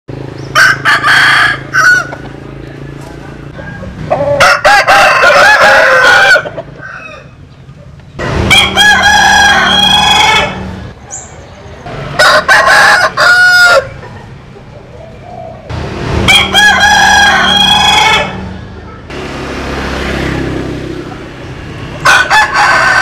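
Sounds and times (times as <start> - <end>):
roosters crowing: 0.1 - 23.0.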